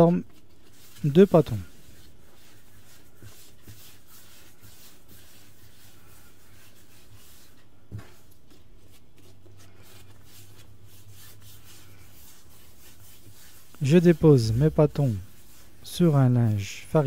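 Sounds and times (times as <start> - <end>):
hands rubbing dough: 0.0 - 17.0.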